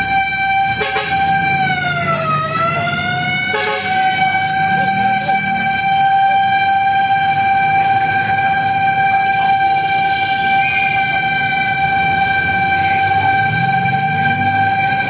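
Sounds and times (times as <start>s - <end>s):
fire truck siren steady tone: 0.0s - 15.0s
truck engine running: 0.0s - 15.0s.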